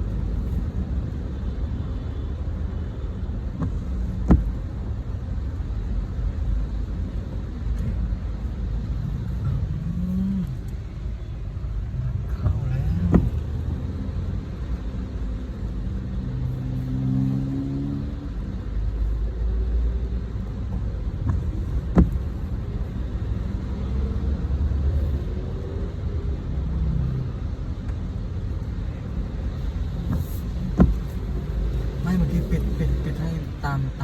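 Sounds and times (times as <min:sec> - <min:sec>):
car engine rumbling: 0:00.0 - 0:34.0.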